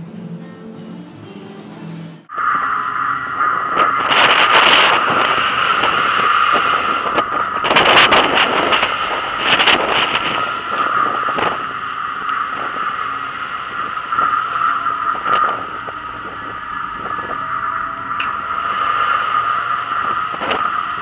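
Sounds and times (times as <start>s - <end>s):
steady hum: 2.2s - 21.0s
waves breaking: 2.3s - 21.0s
wind buffeting microphone: 2.4s - 21.0s.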